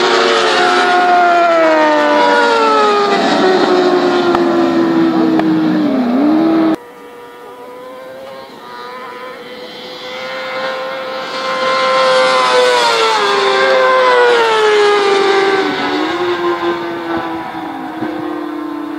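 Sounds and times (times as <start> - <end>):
distant motorcycle engine: 0.0 - 18.9
racing motorcycle passing by: 0.0 - 18.9.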